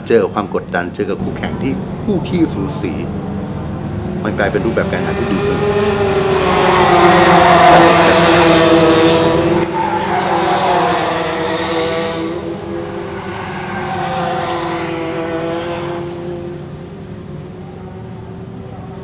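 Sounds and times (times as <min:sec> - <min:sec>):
kart engines racing past: 0:00.0 - 0:19.0.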